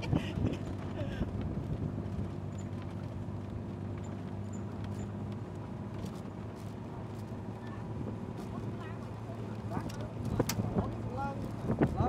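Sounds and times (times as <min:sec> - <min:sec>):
tyre and road noise: 0:00.0 - 0:12.0
vehicle engine running: 0:00.0 - 0:12.0.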